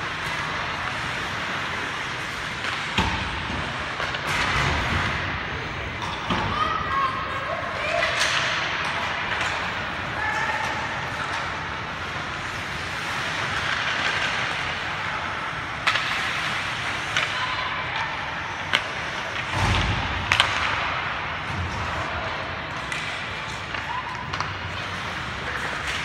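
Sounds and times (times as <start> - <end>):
hockey sticks and puck clacking: 0.0 - 26.0.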